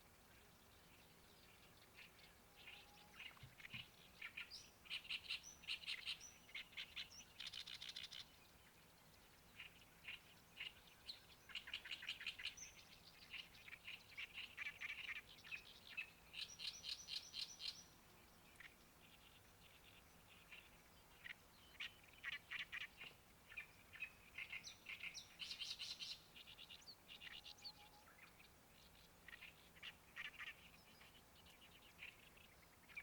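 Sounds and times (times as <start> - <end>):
songbird chirping: 0.0 - 33.0.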